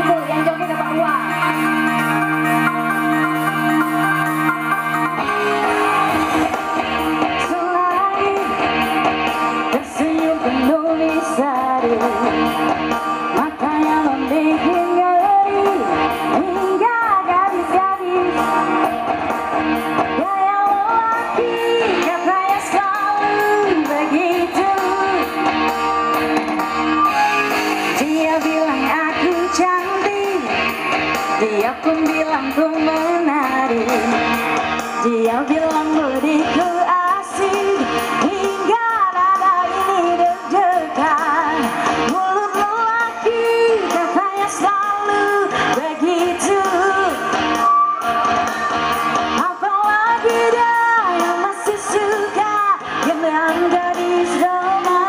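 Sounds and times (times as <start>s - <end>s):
woman singing: 0.0s - 18.9s, 20.0s - 25.6s, 27.8s - 48.4s, 49.2s - 55.0s
guitar: 0.0s - 55.0s.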